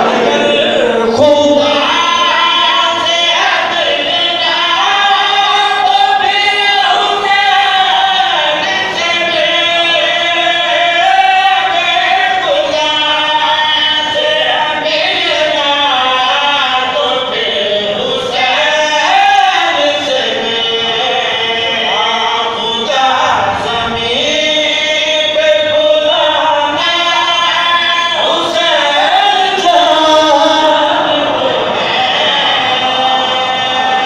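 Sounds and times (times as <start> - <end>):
men singing unaccompanied: 0.0 - 34.0.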